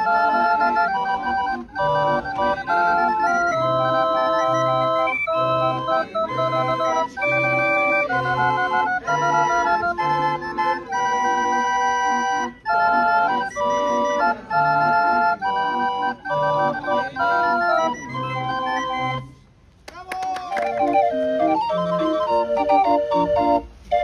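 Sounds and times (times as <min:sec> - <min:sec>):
barrel organ playing a tune: 0:00.0 - 0:19.4, 0:20.6 - 0:24.0.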